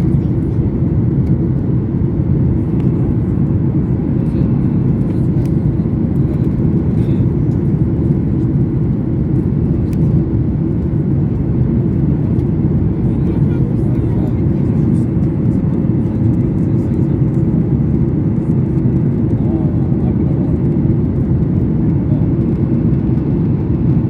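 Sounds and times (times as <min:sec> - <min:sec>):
jet cabin engine rumble: 0:00.0 - 0:24.0.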